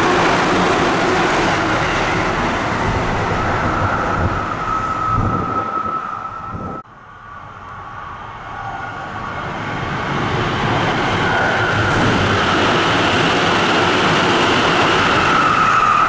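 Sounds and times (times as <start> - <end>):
train passing at high speed: 0.0 - 16.0.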